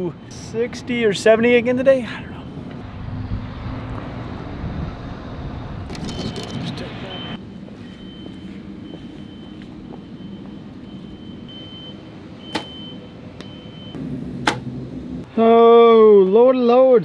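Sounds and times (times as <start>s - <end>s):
outdoor hum: 0.0s - 16.4s.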